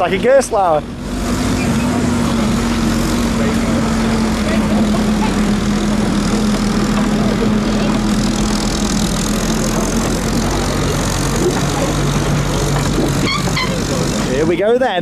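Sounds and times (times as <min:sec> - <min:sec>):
tractor diesel engine running: 0:00.0 - 0:15.0
trailer rattling rumble: 0:00.0 - 0:15.0.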